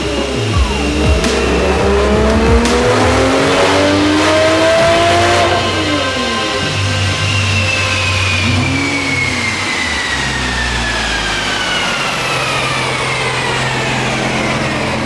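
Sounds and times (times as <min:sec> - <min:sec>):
car engine winding down with whine: 0:00.0 - 0:15.0
mechanical rushing noise: 0:00.0 - 0:15.0.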